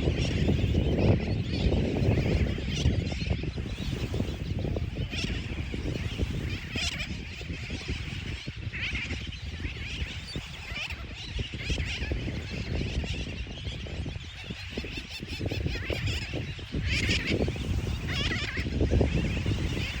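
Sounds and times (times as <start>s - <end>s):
seabirds calling: 0.0s - 20.0s.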